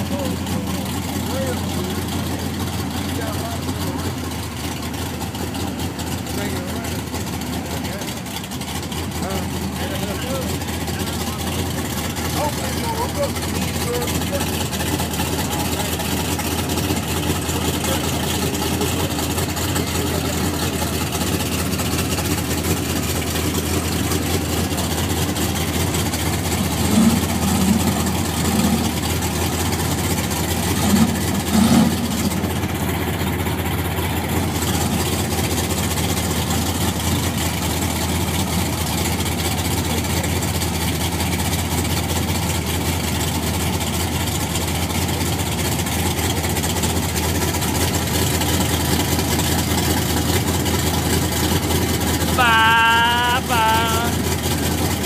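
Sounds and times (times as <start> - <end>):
drag car engine idling: 0.0 - 55.0.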